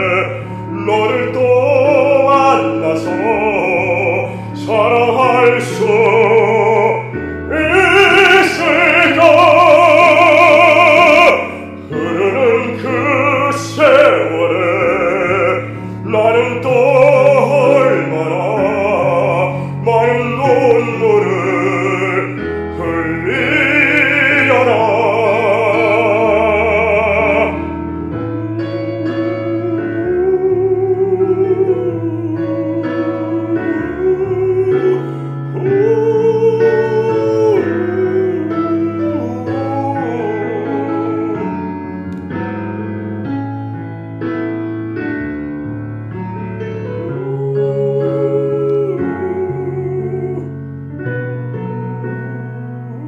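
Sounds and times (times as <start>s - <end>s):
man singing operatic ballad: 0.0s - 42.8s, 46.0s - 53.0s.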